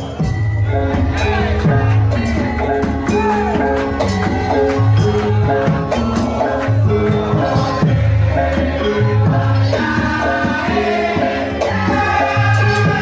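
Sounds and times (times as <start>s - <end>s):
percussion music with tuned notes: 0.0s - 13.0s.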